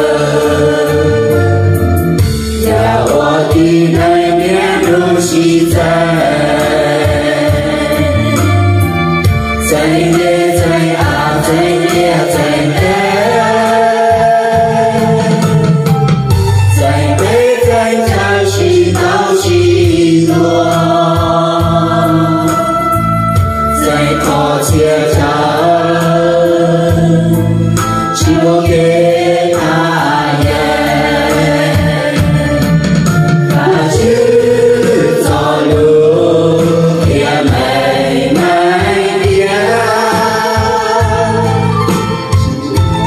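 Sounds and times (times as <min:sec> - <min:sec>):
instrumental accompaniment with low beat: 0:00.0 - 0:43.0.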